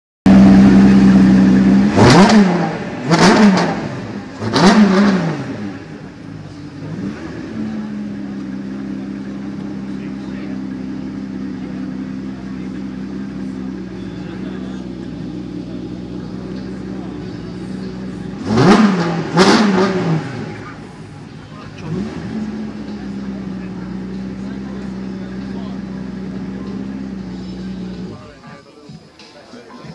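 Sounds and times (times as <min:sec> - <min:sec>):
car engine revving and idling: 0:00.3 - 0:28.4.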